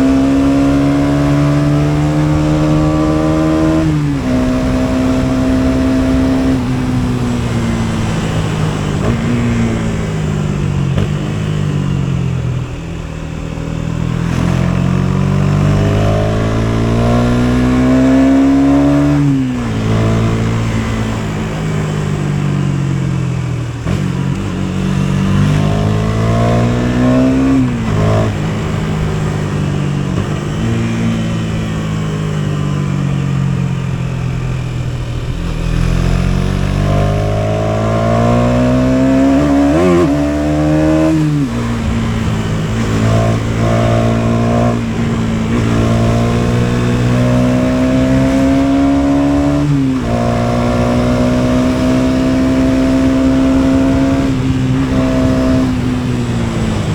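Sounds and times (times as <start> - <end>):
motorcycle engine shifting gears: 0.0 - 56.9.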